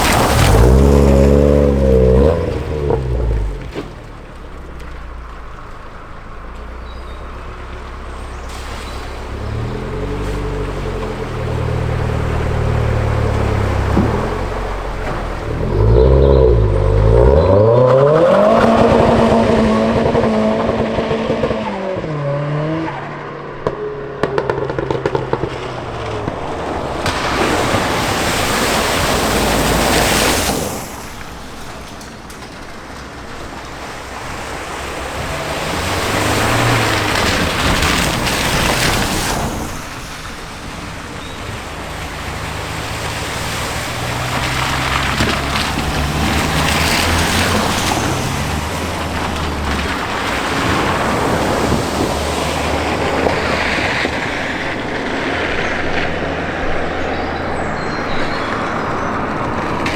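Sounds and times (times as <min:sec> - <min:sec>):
car engine revving: 0:00.0 - 0:59.9
water splashing: 0:00.0 - 0:59.9.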